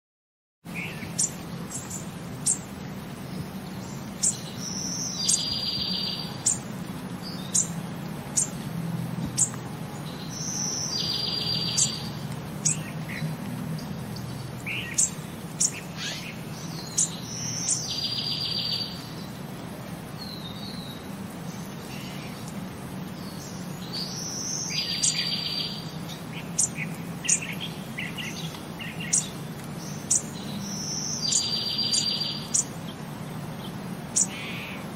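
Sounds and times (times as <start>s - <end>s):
birds chirping: 0.7s - 34.9s.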